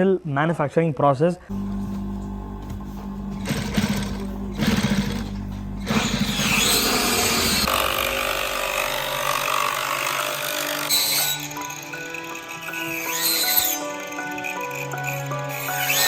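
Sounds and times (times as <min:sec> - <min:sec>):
background music: 0:01.5 - 0:16.0
power tool working: 0:01.5 - 0:16.0.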